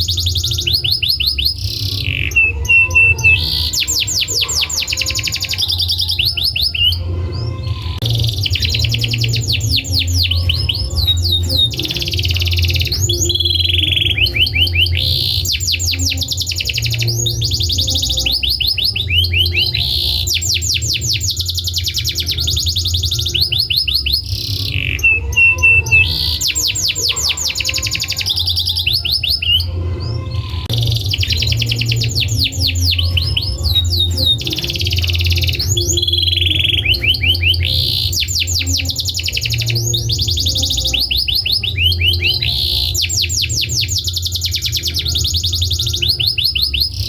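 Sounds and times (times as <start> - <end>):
steady low hum: 0.0 - 44.4
canary singing trills: 0.0 - 47.0.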